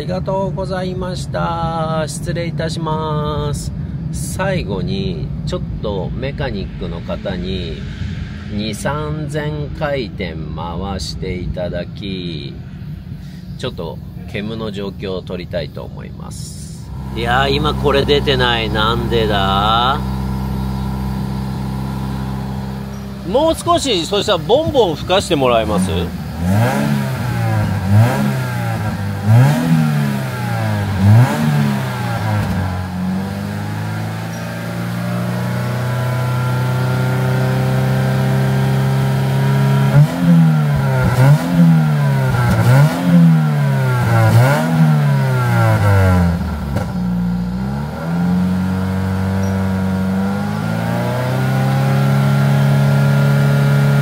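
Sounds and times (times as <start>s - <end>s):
car engine revving: 3.1s - 10.8s, 16.5s - 54.0s.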